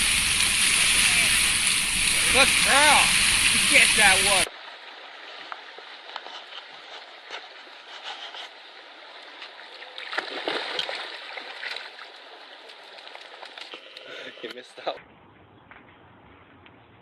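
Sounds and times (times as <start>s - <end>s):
water splashing and gurgling: 0.0s - 13.9s.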